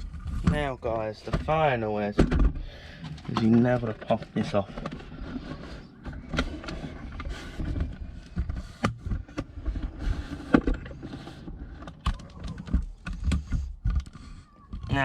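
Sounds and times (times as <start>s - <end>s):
plastic clicks and knocks: 0.0s - 15.0s.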